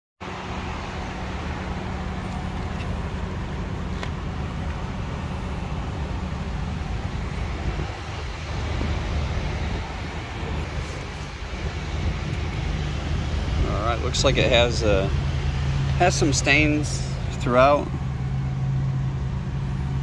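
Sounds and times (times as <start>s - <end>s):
vehicle engine rumble: 0.2s - 20.0s.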